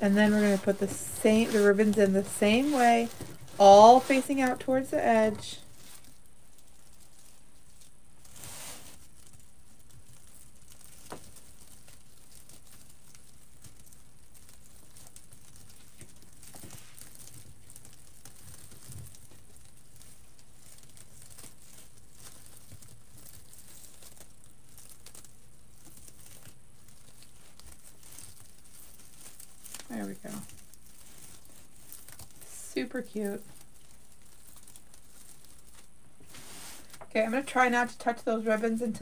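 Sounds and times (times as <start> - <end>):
mesh and ribbon rustling: 0.0 - 39.0.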